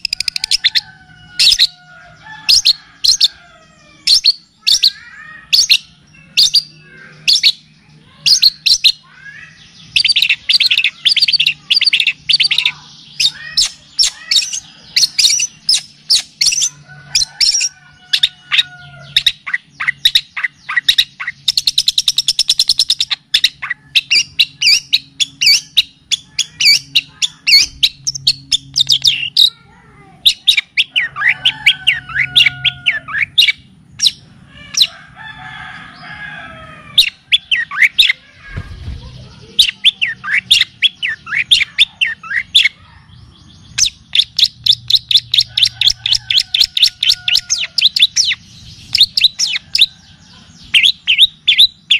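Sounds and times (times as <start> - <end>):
recorded songbird song: 0.0 - 51.9.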